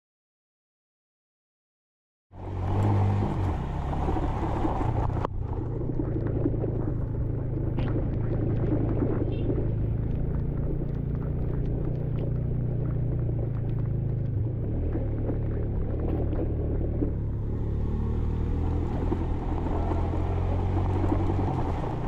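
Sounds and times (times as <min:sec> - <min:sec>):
wind: 0:02.3 - 0:22.0
motorcycle engine running: 0:02.4 - 0:22.0
tyre noise: 0:02.4 - 0:22.0.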